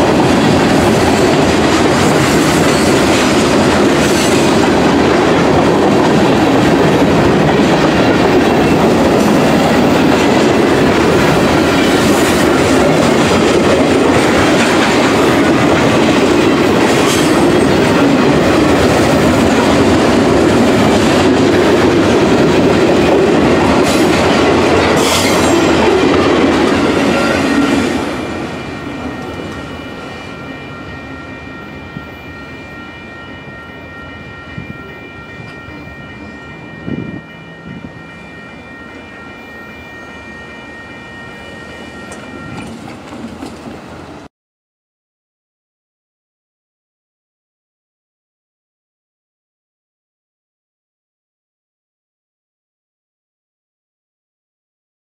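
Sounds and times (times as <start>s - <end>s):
crossing bell ringing: 0.0s - 44.3s
freight train rolling past: 0.0s - 44.3s.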